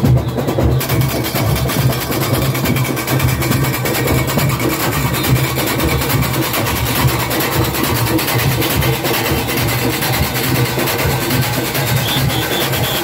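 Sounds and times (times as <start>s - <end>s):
cowbells: 0.0s - 13.0s
drums playing fast rhythm: 0.0s - 13.0s.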